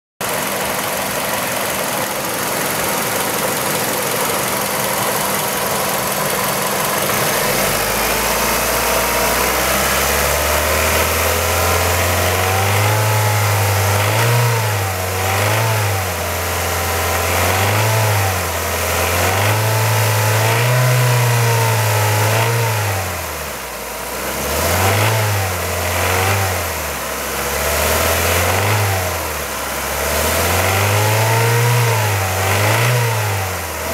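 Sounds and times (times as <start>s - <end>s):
car engine idling and revving: 0.2s - 33.9s
engine rattle: 0.2s - 33.9s.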